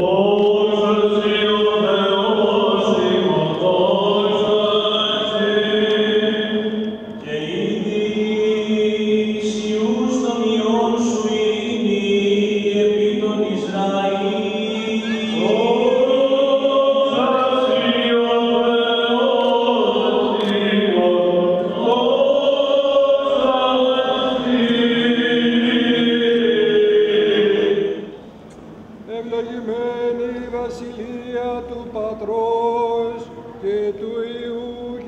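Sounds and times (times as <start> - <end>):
chant with long sliding notes: 0.0 - 28.4.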